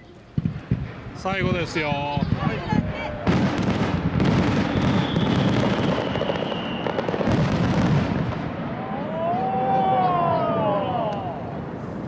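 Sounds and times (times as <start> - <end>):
fireworks bursting and crackling: 0.1 - 12.0.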